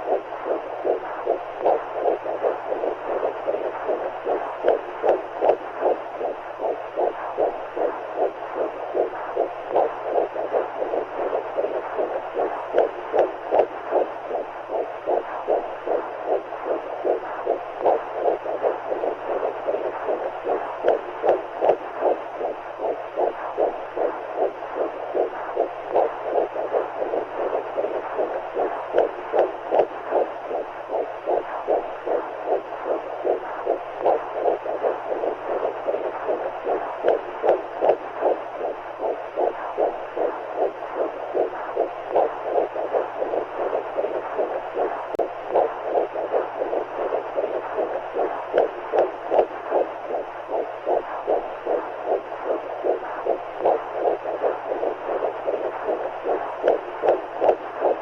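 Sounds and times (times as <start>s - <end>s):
heartbeat pulses: 0.0s - 58.0s
low hum: 0.0s - 58.0s.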